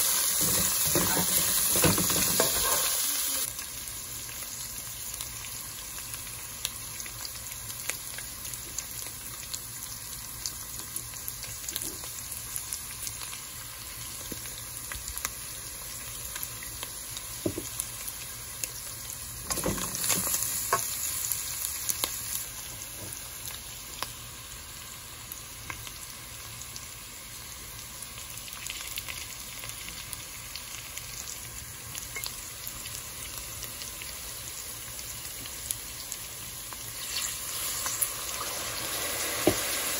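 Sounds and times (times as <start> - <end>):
meat and onion sizzling in pot: 0.0 - 39.9.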